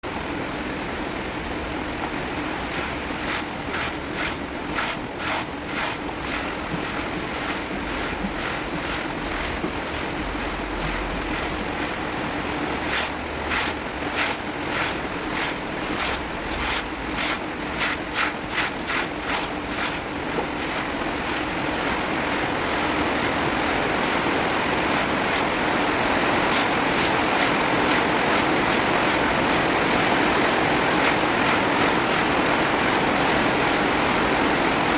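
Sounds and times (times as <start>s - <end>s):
wind and rain rushing: 0.0s - 34.9s.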